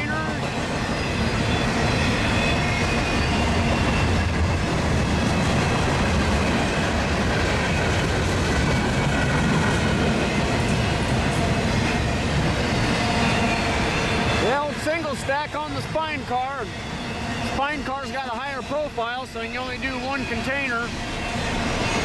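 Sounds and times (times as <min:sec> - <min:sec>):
steel wheels rumbling on rails: 0:00.0 - 0:22.0.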